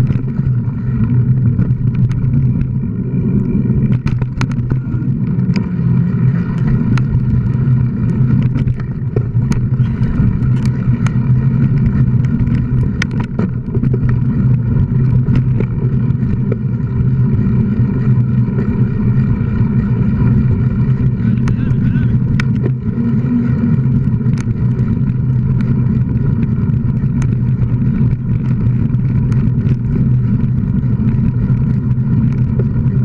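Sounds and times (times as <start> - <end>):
bike clicks and rattles: 0.0 - 33.0
hum of tyres and wind: 0.0 - 33.0.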